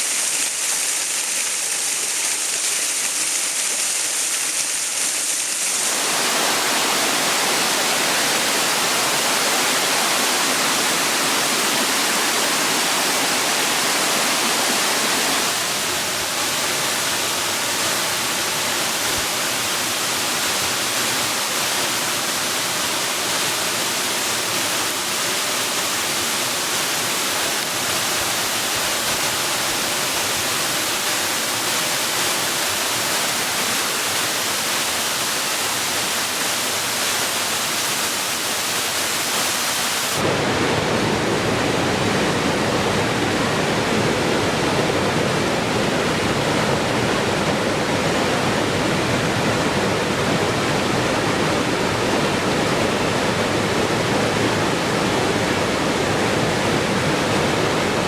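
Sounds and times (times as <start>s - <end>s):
falling water rushing: 0.0s - 58.0s.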